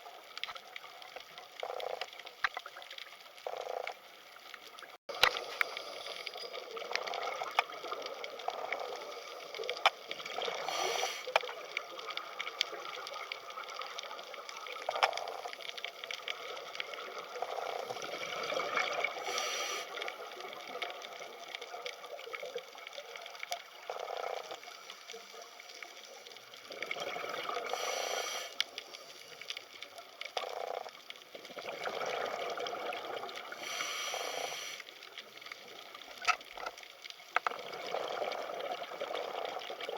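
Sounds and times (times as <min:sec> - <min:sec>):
underwater hiss with crackling clicks: 0:00.0 - 0:39.9.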